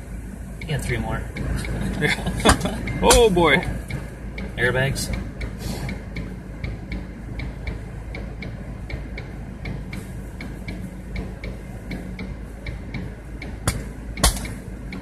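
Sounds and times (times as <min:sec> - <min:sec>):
low engine hum: 0:00.0 - 0:15.0
hazard light flasher ticking: 0:00.6 - 0:15.0.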